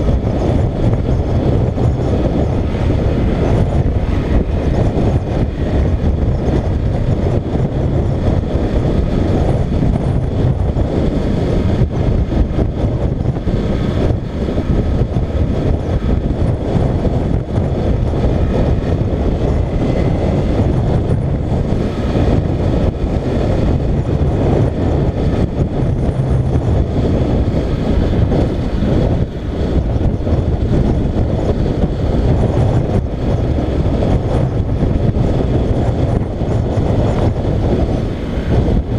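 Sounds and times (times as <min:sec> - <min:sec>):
motorcycle engine running: 0:00.0 - 0:38.9
wind rushing on microphone: 0:00.0 - 0:38.9.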